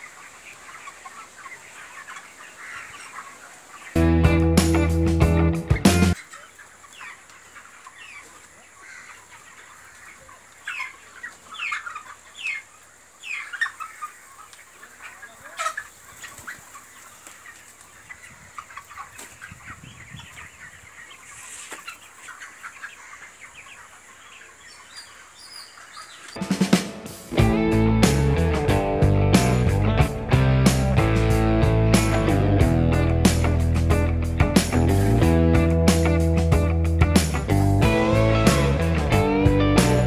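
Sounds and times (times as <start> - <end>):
chickens peeping and clucking: 0.0 - 40.0.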